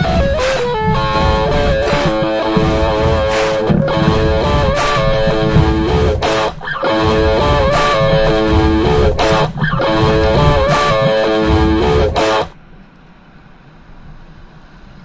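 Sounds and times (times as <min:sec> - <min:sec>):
bass: 0:00.0 - 0:12.5
electric guitar riff: 0:00.0 - 0:12.6.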